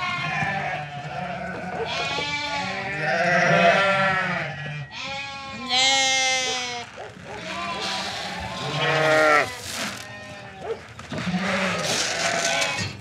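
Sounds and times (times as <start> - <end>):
sheep and lambs bleating: 0.0 - 13.0.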